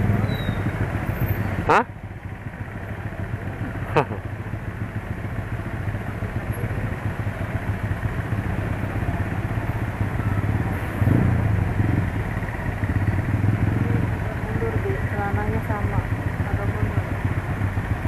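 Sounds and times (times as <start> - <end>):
motorcycle engines humming: 0.0 - 18.0.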